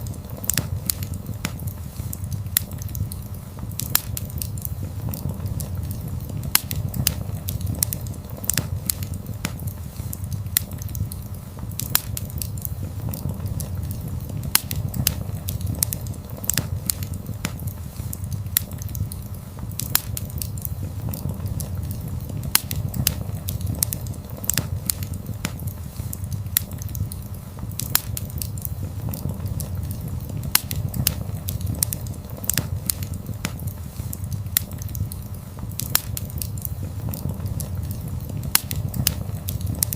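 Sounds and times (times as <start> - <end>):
fire crackles and pops: 0.0 - 39.9
fire low rumble: 0.0 - 39.9.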